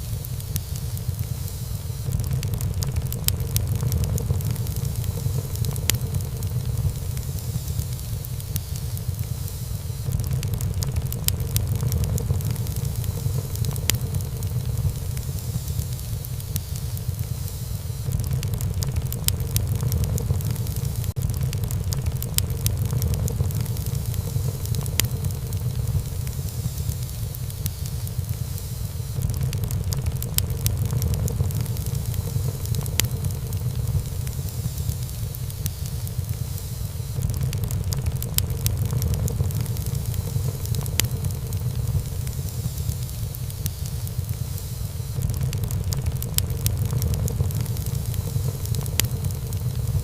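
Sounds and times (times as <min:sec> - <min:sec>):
low rumble of flames: 0:00.0 - 0:50.0
wood fire crackling and popping: 0:00.0 - 0:50.0.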